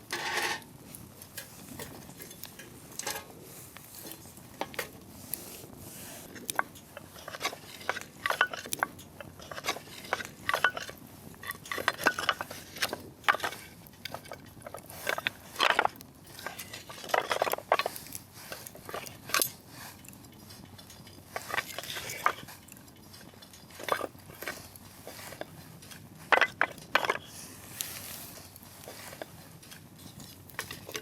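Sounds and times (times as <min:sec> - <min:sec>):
bonfire crackling: 0:00.0 - 0:31.0.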